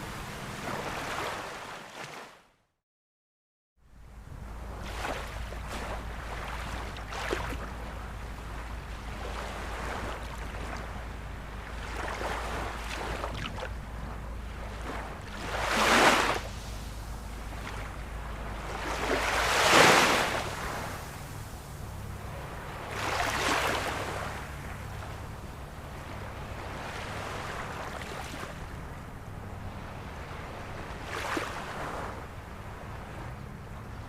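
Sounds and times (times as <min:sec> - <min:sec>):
ocean waves washing: 0:00.0 - 0:02.4, 0:03.9 - 0:34.0
waves breaking: 0:00.0 - 0:02.5, 0:04.0 - 0:34.0.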